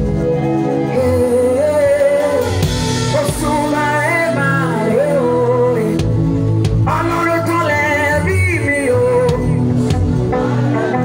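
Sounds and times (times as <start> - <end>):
person singing: 0.0 - 11.0
worship band playing: 0.0 - 11.0.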